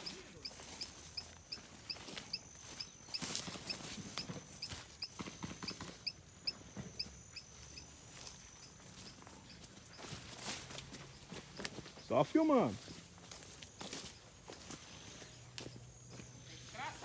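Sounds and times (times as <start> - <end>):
footsteps through dry brush: 0.0 - 17.0.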